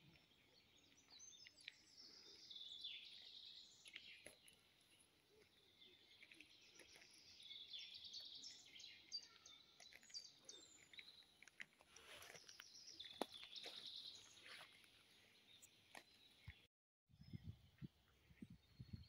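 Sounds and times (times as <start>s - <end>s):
small birds singing: 0.0s - 19.0s.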